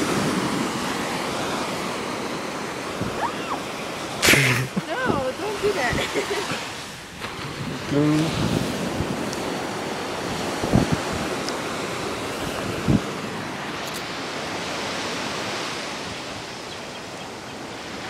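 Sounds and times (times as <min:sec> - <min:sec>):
wind on microphone: 0:00.0 - 0:16.6
ocean surf on beach: 0:00.0 - 0:18.0.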